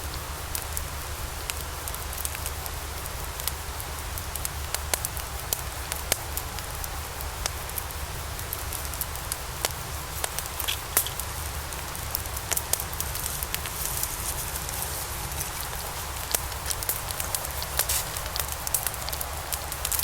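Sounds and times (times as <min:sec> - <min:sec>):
fire hissing and rumbling: 0:00.0 - 0:20.0
fire crackling and popping: 0:00.1 - 0:20.0.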